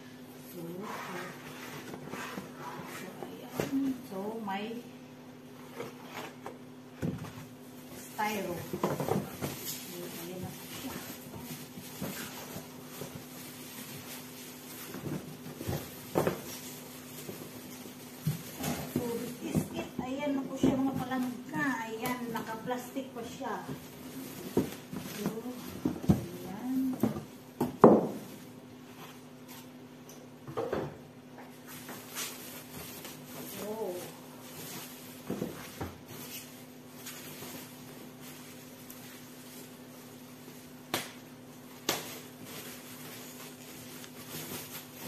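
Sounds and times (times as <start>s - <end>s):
cardboard and styrofoam rustling: 0.5s - 4.8s, 5.5s - 29.8s, 31.5s - 45.0s.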